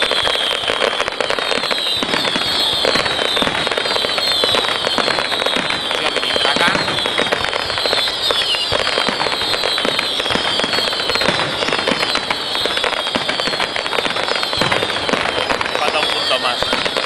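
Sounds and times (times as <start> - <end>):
fireworks bangs and crackles: 0.0 - 17.0
fireworks whistles sliding down: 0.0 - 17.0.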